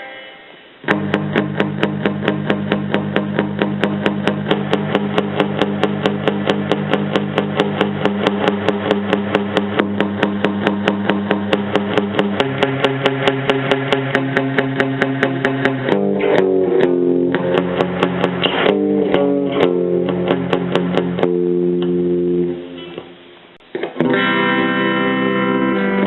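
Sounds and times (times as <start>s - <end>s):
electric guitar strumming chords: 0.0s - 26.0s.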